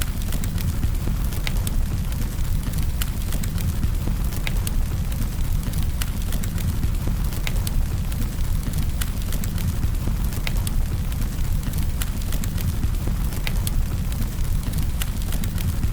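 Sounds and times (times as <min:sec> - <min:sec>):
wood crackling and popping: 0:00.0 - 0:15.9
campfire flames rumbling: 0:00.2 - 0:15.9.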